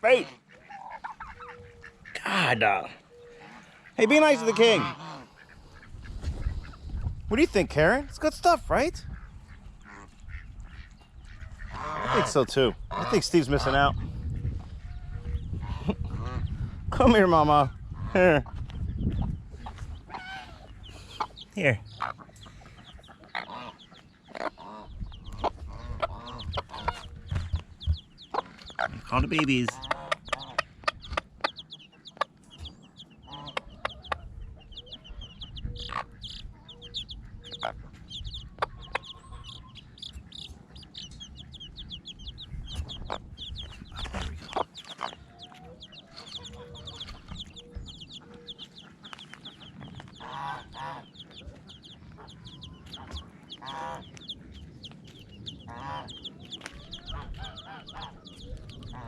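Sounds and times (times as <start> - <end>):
hen clucking: 0.0 - 59.0
chicks peeping: 0.2 - 59.0.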